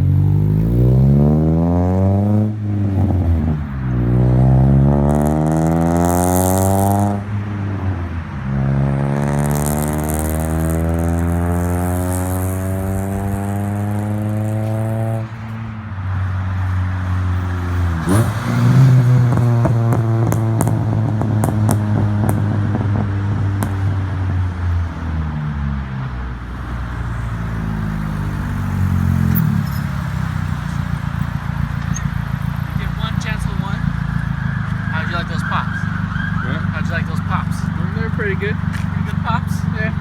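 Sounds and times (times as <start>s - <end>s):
exhaust popping: 0.0s - 15.4s, 17.9s - 24.4s, 26.4s - 40.0s
car engine driving by: 0.0s - 40.0s.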